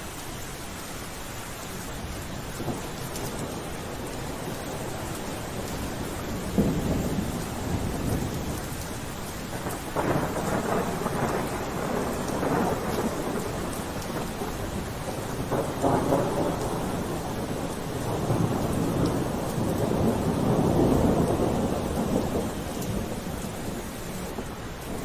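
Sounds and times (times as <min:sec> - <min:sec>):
steady rain falling: 0:00.0 - 0:25.0
rolling thunder: 0:02.6 - 0:25.0.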